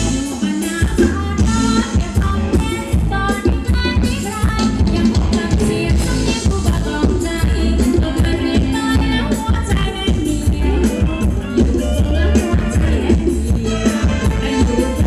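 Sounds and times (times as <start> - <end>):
amplified dance music from a band: 0.0 - 15.0
person singing: 0.0 - 15.0
steady drum beat: 0.0 - 15.0.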